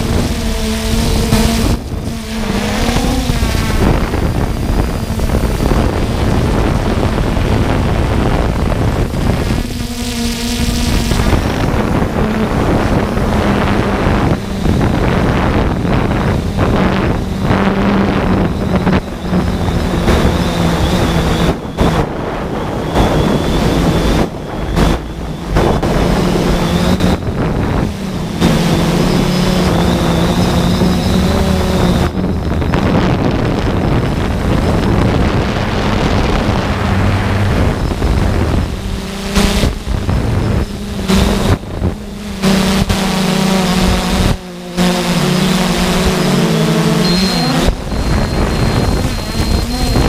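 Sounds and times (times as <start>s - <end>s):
drone propellers humming: 0.0s - 50.0s
wind rushing over microphone: 0.0s - 50.0s.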